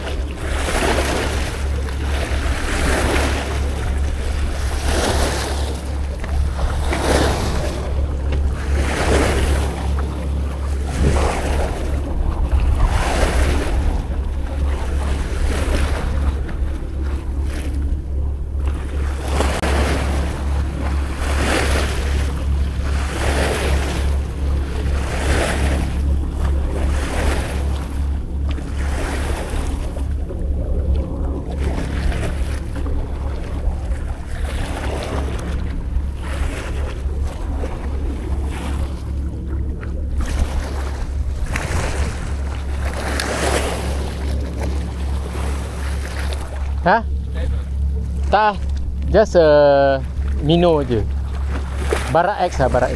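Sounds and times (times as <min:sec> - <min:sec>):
waves splashing against seawall: 0:00.0 - 0:52.9
wind rumble on microphone: 0:00.0 - 0:52.9.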